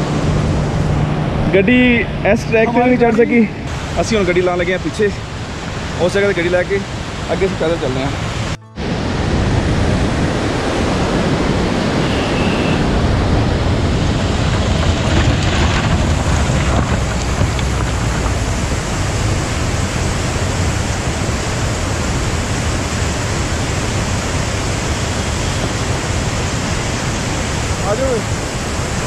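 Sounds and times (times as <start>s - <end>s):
wind buffeting microphone: 0.0s - 29.0s
stream rushing over rocks: 2.7s - 29.0s.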